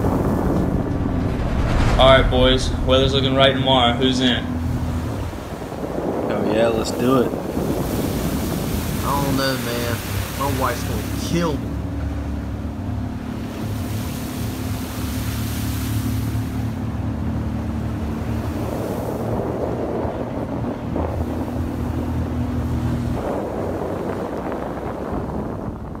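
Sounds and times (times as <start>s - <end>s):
water rushing past hull: 0.0s - 26.0s
wind on microphone: 0.0s - 26.0s
outboard motor running: 4.2s - 25.8s.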